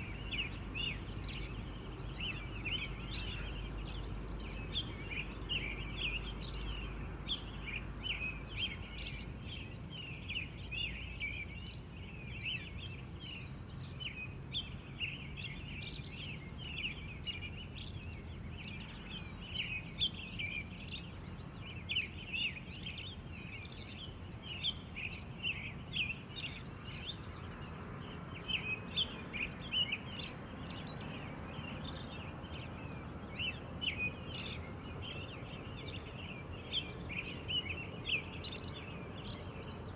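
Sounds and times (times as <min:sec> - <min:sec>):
birds chirping and singing: 0:00.0 - 0:39.9
high insect trill: 0:00.0 - 0:39.9.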